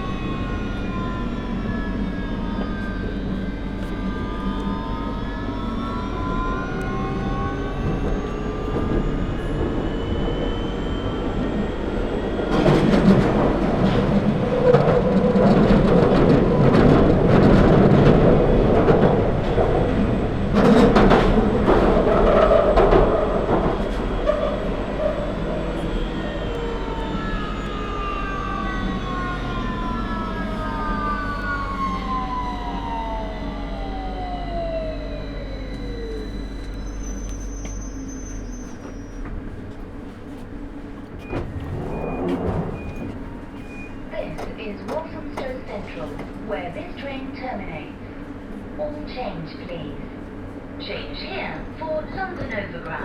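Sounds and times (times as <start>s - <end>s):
traction motors whining: 0.0s - 53.0s
train rumbling: 0.0s - 53.0s.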